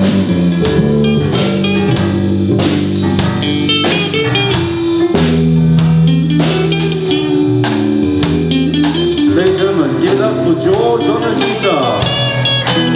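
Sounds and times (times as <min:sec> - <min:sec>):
drum hits: 0:00.0 - 0:12.9
rock band playing: 0:00.0 - 0:12.9.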